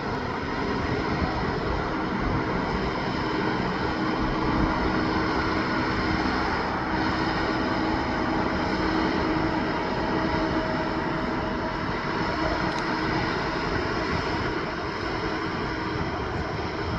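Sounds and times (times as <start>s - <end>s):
road and tyre noise: 0.0s - 16.9s
truck engine drone: 0.0s - 16.9s.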